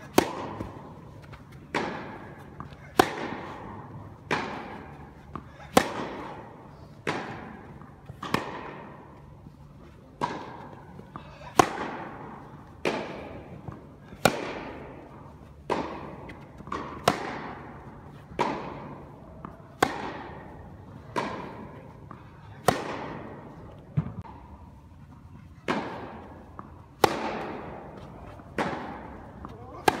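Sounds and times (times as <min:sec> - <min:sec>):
racket hitting tennis ball: 0:00.0 - 0:24.6, 0:25.6 - 0:30.0.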